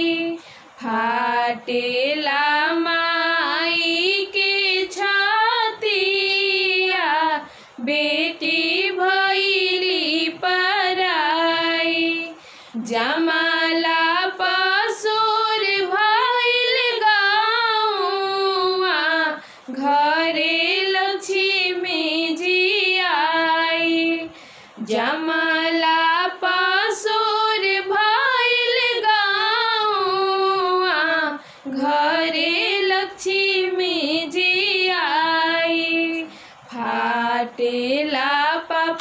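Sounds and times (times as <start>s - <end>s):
women singing in unison: 0.0s - 39.0s.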